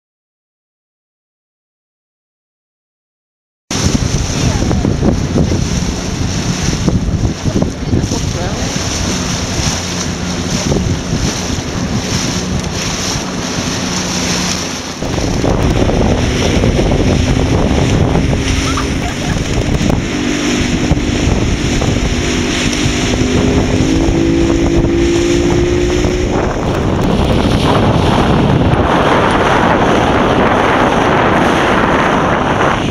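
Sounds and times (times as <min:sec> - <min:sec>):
water rushing and splashing: 0:03.7 - 0:32.9
wind buffeting microphone: 0:03.7 - 0:32.9.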